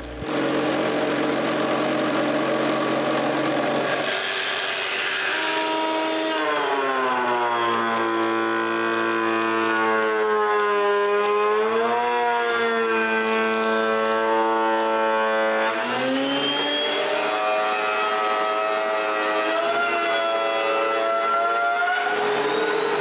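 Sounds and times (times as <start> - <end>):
jigsaw cutting wood: 0.0 - 23.0
jointer motor humming: 0.0 - 23.0.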